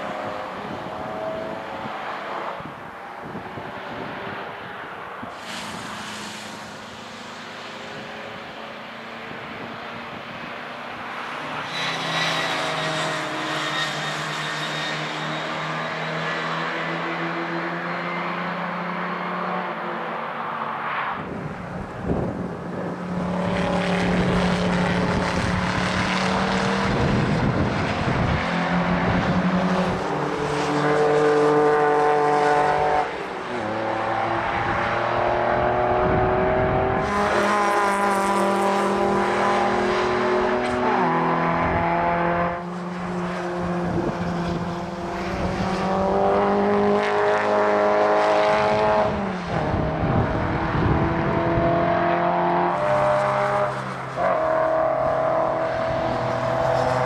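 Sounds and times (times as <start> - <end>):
engines revving: 0.0 - 57.0
race cars passing: 0.0 - 57.0.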